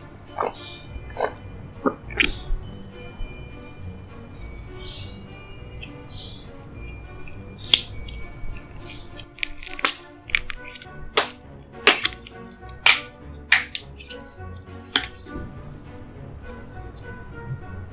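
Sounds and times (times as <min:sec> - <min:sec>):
soft background music: 0:00.0 - 0:17.9.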